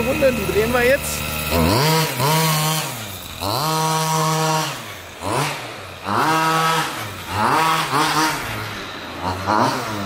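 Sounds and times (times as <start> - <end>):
small two-stroke engine revving: 0.0 - 10.0.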